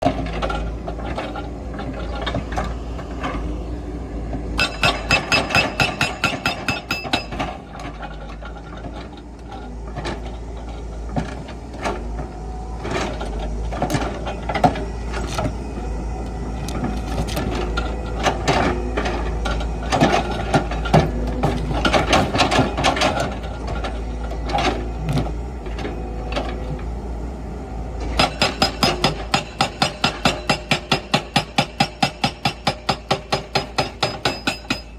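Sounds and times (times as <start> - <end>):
excavator engine rumble: 0.0 - 34.9.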